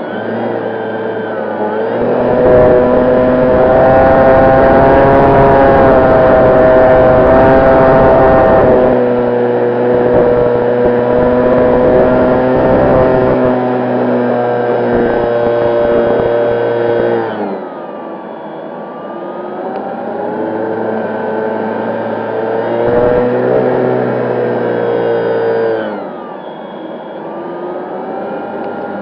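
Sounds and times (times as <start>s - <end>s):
electric motor and propeller whine: 0.0s - 29.0s.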